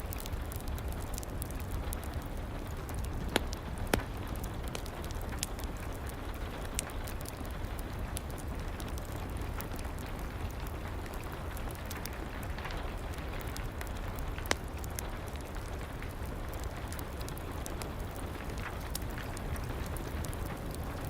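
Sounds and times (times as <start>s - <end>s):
fire popping: 0.0s - 21.0s
fireplace fire crackling: 0.0s - 21.0s
steady rain: 0.0s - 21.0s.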